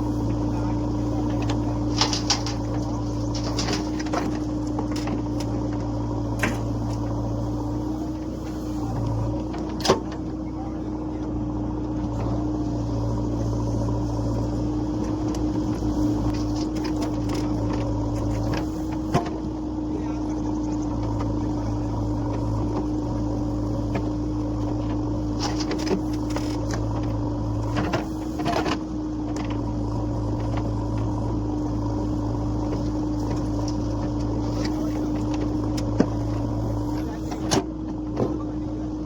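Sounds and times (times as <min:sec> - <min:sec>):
backhoe loader diesel engine running: 0:00.0 - 0:39.0.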